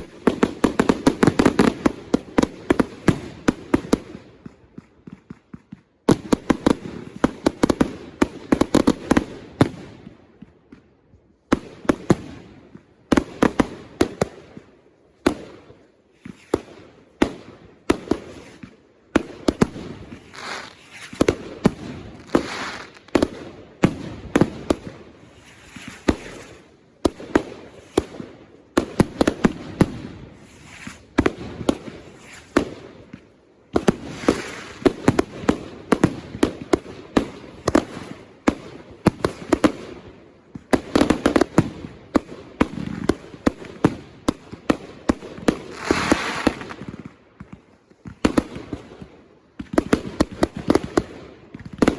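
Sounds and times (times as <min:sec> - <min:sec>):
fireworks sharp bangs: 0:00.0 - 0:51.9.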